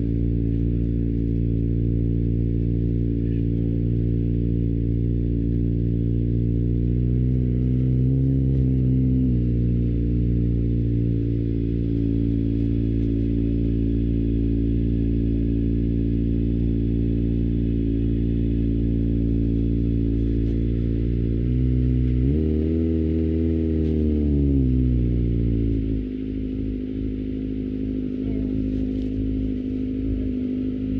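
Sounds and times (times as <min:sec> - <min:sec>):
motorcycle engine: 0:00.0 - 0:30.9.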